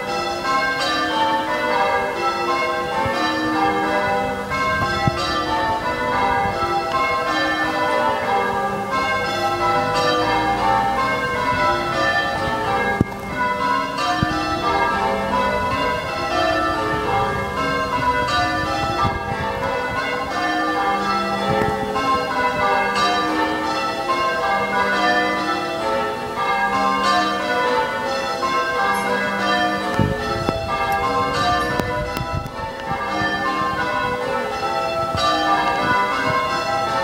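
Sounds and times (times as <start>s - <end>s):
church bells pealing: 0.0s - 37.0s.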